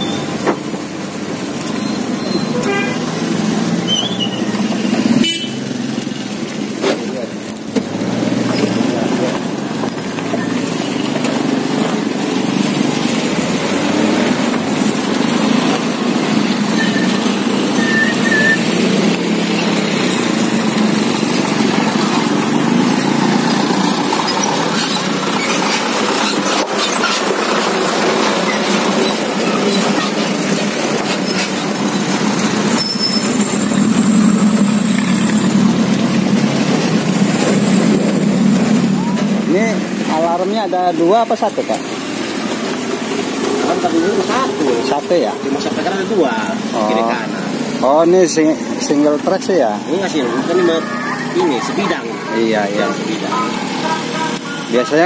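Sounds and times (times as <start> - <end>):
vehicles rumbling over rails: 0.0 - 55.0.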